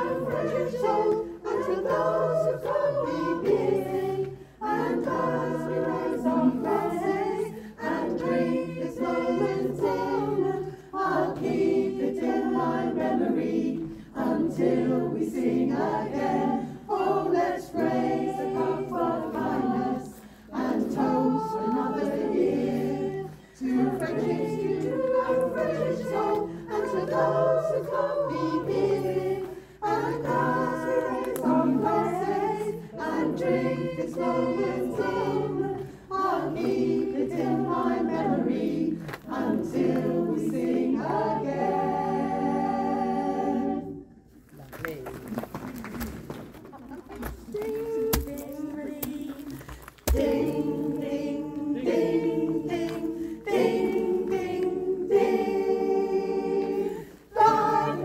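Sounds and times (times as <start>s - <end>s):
mixed choir singing a cappella: 0.0s - 44.3s, 47.5s - 58.0s.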